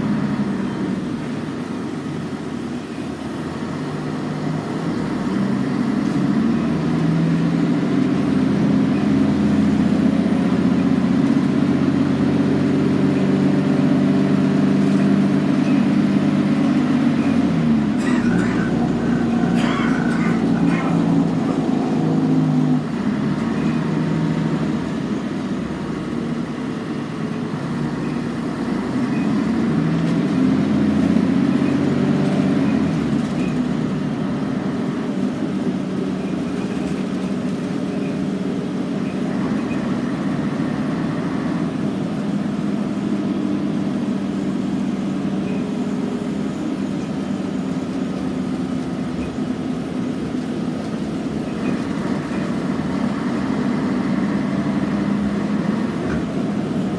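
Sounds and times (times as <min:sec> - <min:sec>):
bus diesel engine running: 0:00.0 - 0:56.9.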